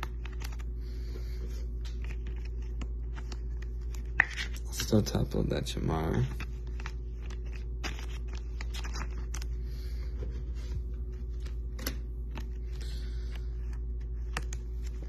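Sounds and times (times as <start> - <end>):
trading cards clicking and rustling: 0.0 - 9.6, 11.0 - 15.0
steady low hum: 0.0 - 15.0.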